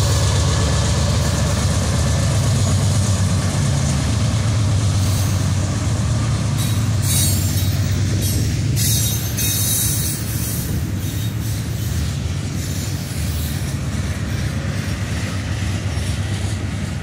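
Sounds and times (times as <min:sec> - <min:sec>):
diesel locomotive engine rumble: 0:00.0 - 0:17.0
high wheel-on-rail noise: 0:00.0 - 0:17.0
rail cars rolling on rails: 0:00.0 - 0:17.0.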